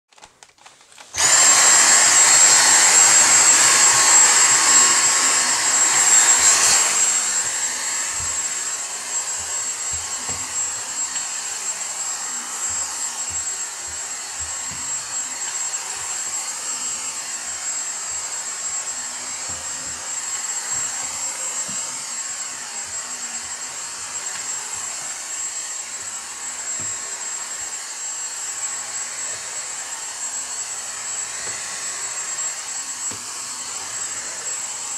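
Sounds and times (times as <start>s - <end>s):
vacuum cleaner motor whine: 0.6s - 34.9s.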